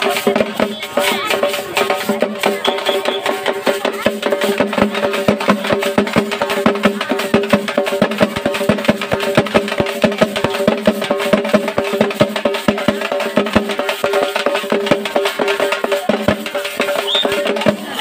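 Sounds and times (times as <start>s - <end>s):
frame drums beaten with sticks: 0.0s - 18.0s.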